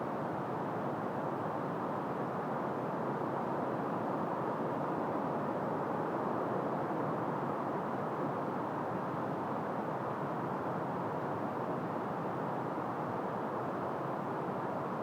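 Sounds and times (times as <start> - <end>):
steady muffled wind: 0.0 - 15.0.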